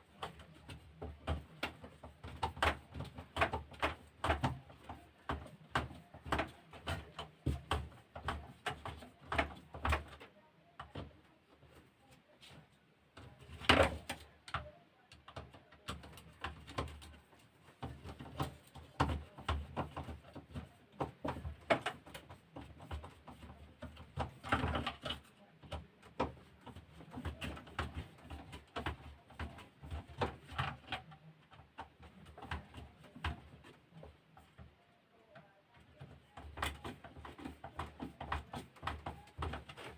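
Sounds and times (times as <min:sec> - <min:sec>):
plastic parts clicking and knocking: 0:00.0 - 0:11.8, 0:13.1 - 0:39.9.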